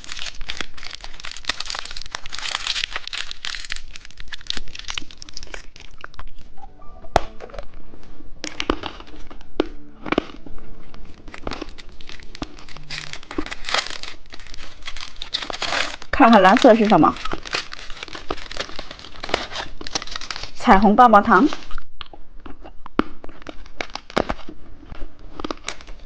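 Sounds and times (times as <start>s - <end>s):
candy wrapper crinkling and tearing: 0.0s - 6.6s, 8.4s - 26.0s.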